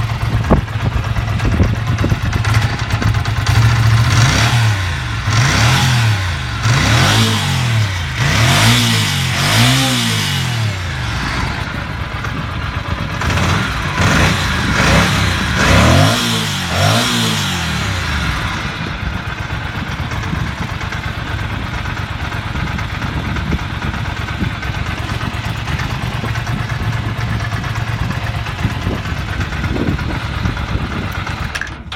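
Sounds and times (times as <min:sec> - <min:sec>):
engine running: 0:00.0 - 0:31.9.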